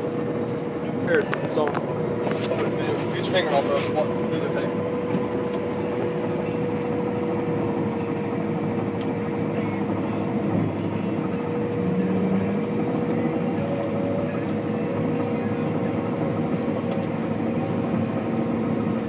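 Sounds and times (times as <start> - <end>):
combine harvester drone: 0.0 - 19.0
steady machine whine: 0.0 - 19.0.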